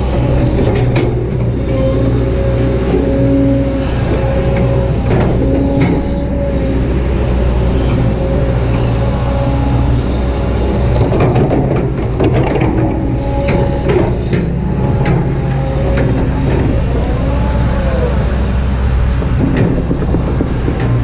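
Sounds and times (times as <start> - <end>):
excavator diesel engine running: 0.0 - 21.0
hydraulic whine: 0.0 - 21.0.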